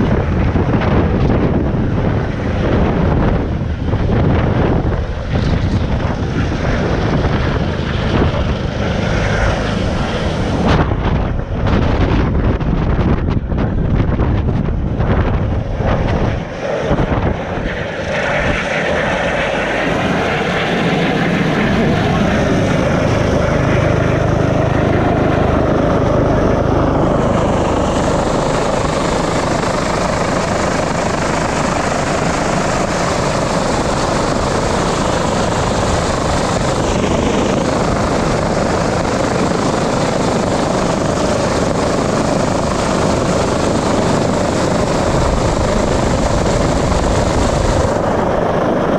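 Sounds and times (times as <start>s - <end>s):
helicopter rotor and turbine: 0.0s - 48.9s
wind buffeting microphone: 0.0s - 48.9s.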